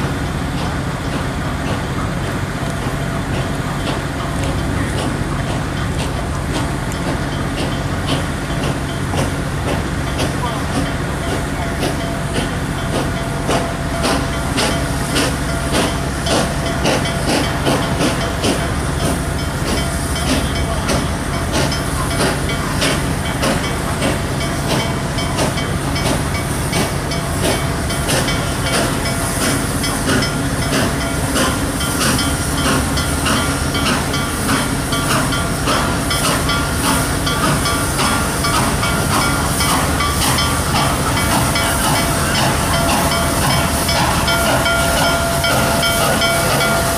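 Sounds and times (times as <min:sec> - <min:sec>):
steam hissing: 0:00.0 - 0:46.9
steam locomotive sharp knocks: 0:00.0 - 0:46.9.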